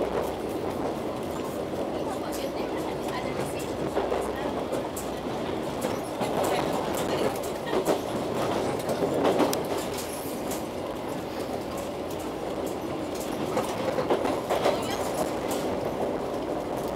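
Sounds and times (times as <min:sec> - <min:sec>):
train wheels rumbling on rail: 0:00.0 - 0:16.9
wheels clacking over rail joints: 0:00.0 - 0:16.9.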